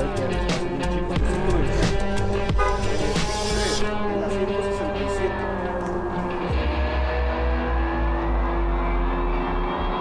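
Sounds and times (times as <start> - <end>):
background music sustained notes: 0.0 - 10.0.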